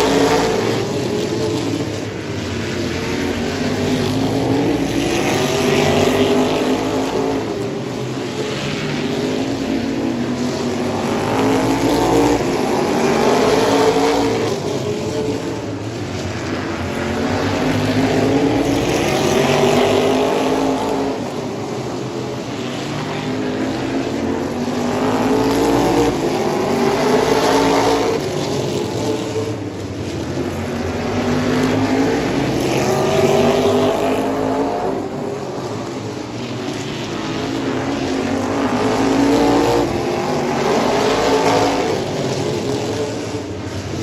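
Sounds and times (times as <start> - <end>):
race car engine accelerating: 0.0 - 44.0.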